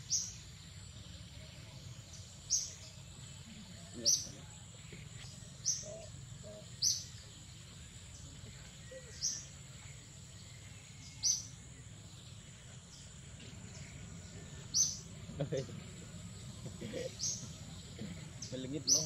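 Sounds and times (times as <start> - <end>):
bird chirping: 0.0 - 19.0
low background hum: 0.0 - 19.0.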